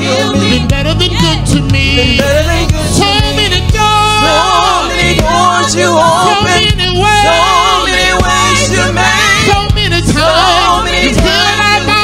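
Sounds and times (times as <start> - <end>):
backing singers: 0.0 - 12.0
bass notes: 0.0 - 12.0
man singing lead: 0.0 - 12.0.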